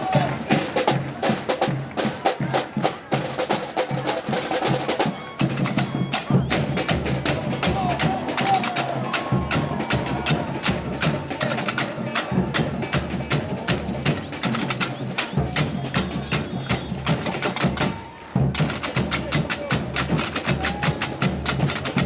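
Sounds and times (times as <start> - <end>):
deep bass drum beats: 0.0 - 22.0
high drum strokes: 2.6 - 22.0.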